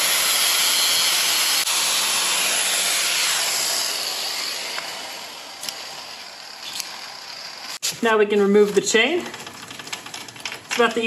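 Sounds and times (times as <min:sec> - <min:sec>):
cutoff wheel grinding metal chain: 0:00.0 - 0:07.8, 0:08.8 - 0:11.0.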